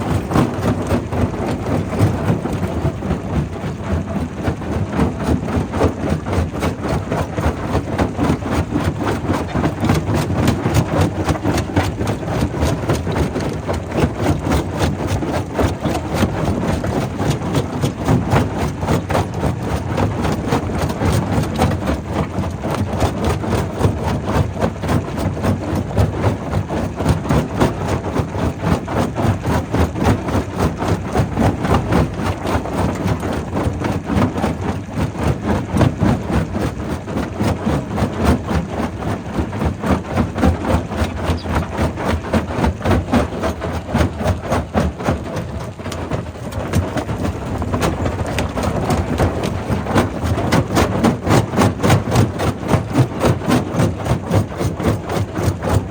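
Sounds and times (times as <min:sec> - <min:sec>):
rapid knocking and clatter: 0:00.0 - 0:55.9.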